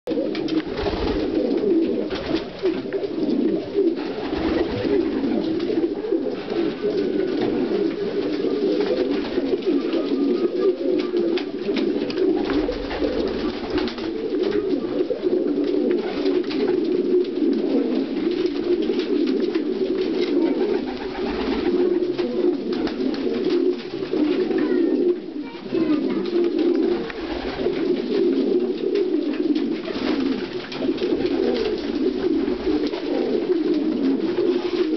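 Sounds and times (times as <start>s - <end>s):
pigeons cooing: 0.1s - 34.9s.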